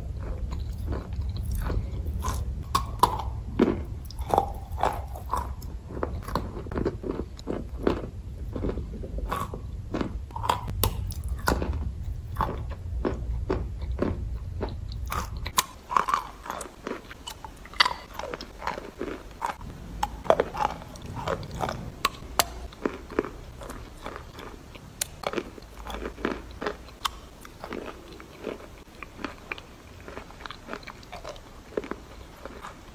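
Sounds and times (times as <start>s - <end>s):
low hum: 0.0s - 29.0s
chewing and crunching chalk: 0.0s - 32.9s.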